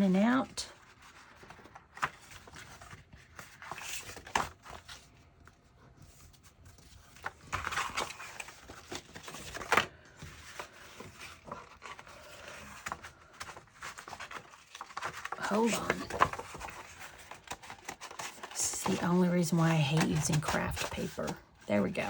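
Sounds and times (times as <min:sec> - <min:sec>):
paper and card rustling: 0:00.0 - 0:22.0.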